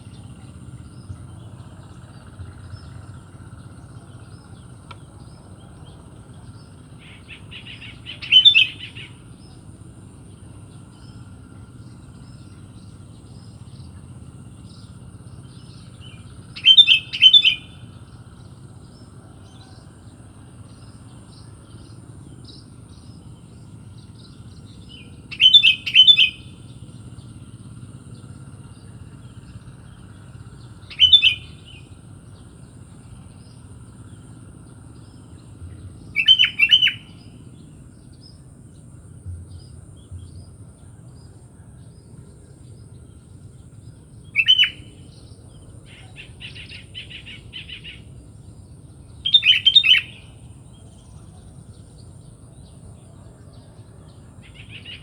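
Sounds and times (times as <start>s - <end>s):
bird chirping calls: 0.0s - 38.5s, 39.6s - 55.0s
steady low hum: 0.0s - 55.0s.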